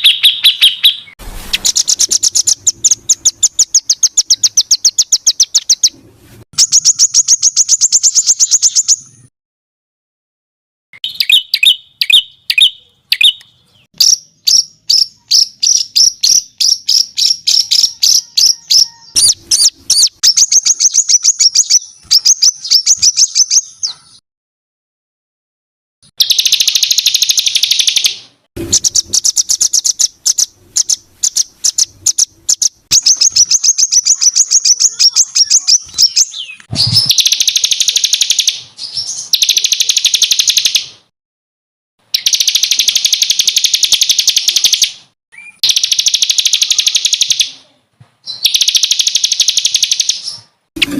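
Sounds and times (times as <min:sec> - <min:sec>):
songbird chirps and trills: 0:00.0 - 0:09.3, 0:11.0 - 0:24.2, 0:26.2 - 0:41.0, 0:42.1 - 0:50.9.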